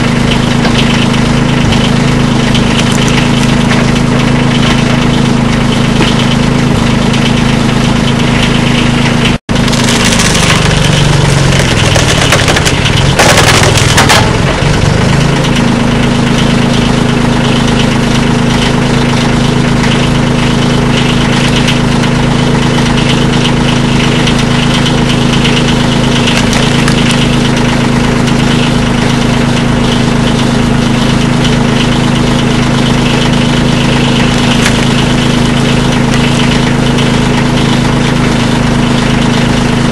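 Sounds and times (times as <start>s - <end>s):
wood splitting crackle: 0.0s - 38.5s
engine running: 0.0s - 39.9s.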